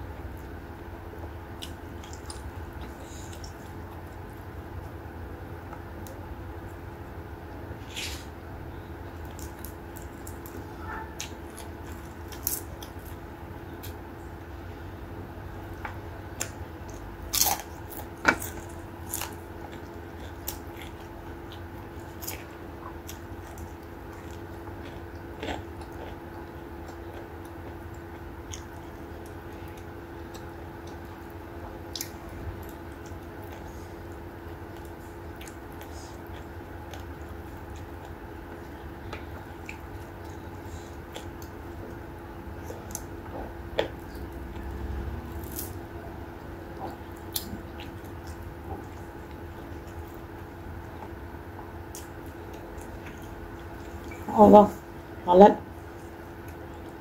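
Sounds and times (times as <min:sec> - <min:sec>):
steady low hum: 0:00.0 - 0:57.0
person chewing food: 0:00.1 - 0:05.0, 0:09.1 - 0:14.8, 0:15.5 - 0:57.0.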